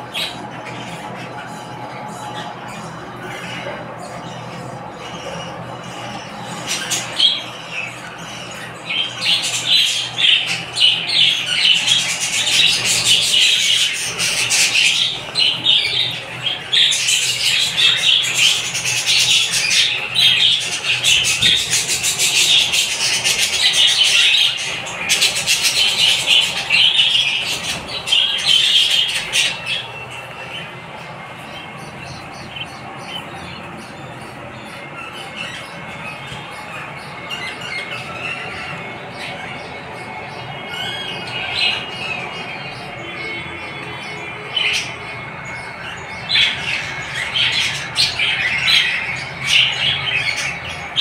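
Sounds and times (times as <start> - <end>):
budgerigars squawking and chattering: 0.0 - 51.0.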